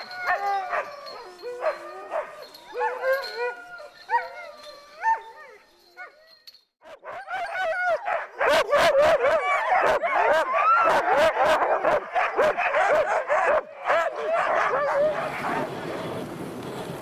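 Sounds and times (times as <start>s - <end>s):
dogs barking and yipping: 0.0s - 15.8s.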